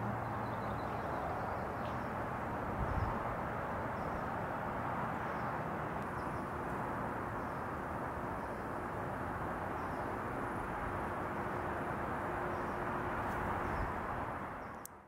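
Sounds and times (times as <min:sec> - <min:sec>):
low rush of background noise: 0:00.0 - 0:15.0.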